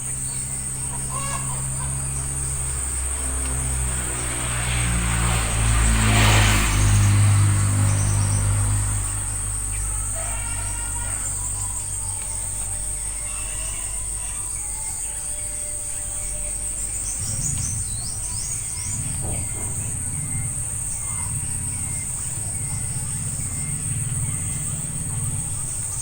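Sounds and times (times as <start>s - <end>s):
insects droning: 0.0s - 26.0s
small birds chirping: 0.0s - 26.0s.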